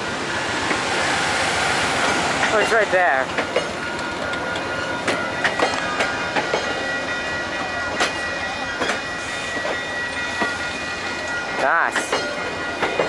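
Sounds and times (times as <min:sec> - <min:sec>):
train cars rumbling past: 0:00.0 - 0:13.0
wheels clacking on rail joints: 0:02.0 - 0:13.0.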